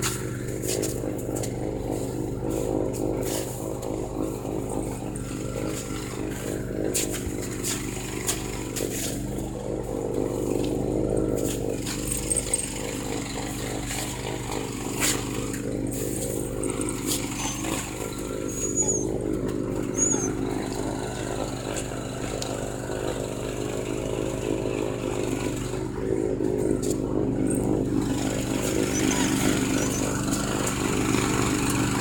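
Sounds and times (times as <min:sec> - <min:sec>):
snowblower engine running: 0:00.0 - 0:32.0.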